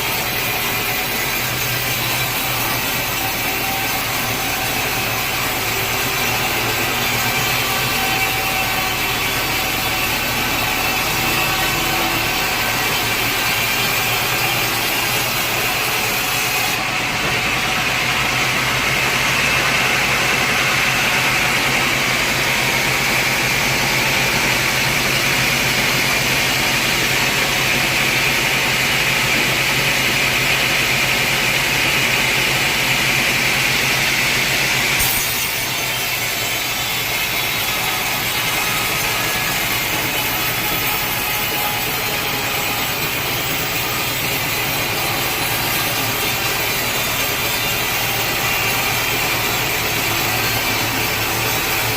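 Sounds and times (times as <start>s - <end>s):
sawmill saw cutting through log: 0.0s - 51.9s.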